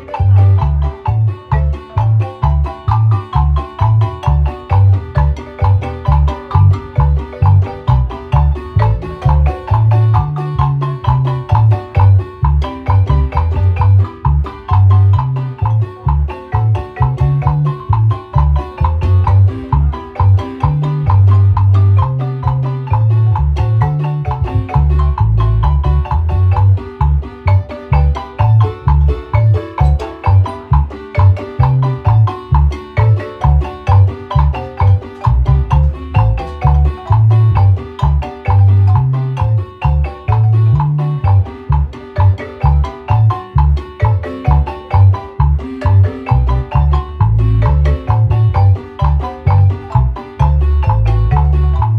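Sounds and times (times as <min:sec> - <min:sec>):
marimba music: 0:00.0 - 0:51.9
pulsing bass line: 0:00.0 - 0:51.9.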